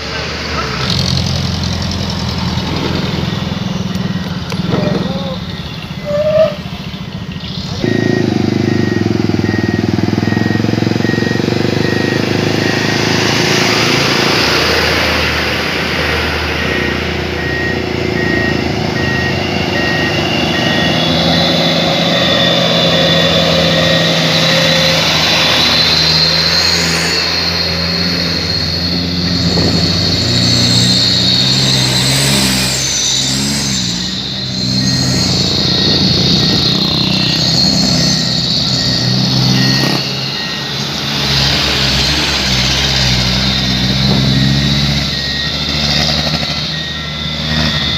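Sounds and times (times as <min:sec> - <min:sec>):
truck engine revving: 0:00.0 - 0:47.9
high steady whine: 0:03.1 - 0:47.9.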